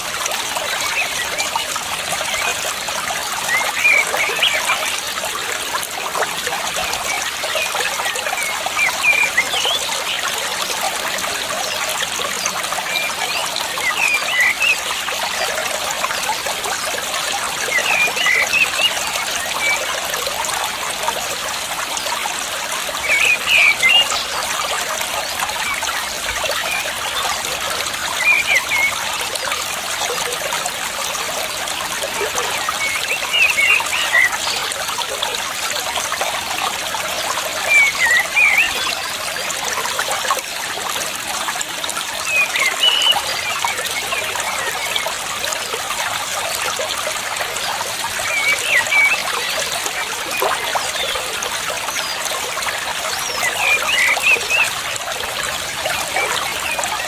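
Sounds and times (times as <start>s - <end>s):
running water trickling: 0.0s - 57.0s.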